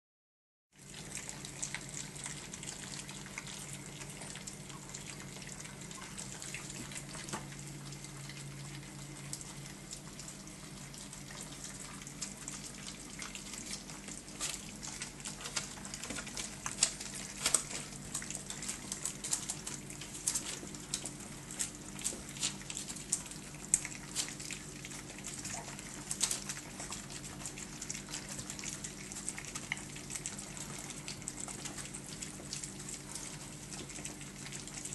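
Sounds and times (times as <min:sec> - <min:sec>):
puppies lapping wet food: 0:00.8 - 0:34.9.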